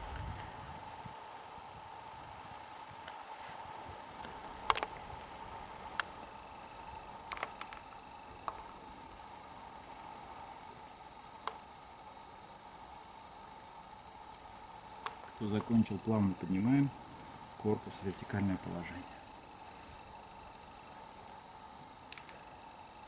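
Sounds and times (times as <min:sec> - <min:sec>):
insects chirping trill: 0:00.0 - 0:23.0.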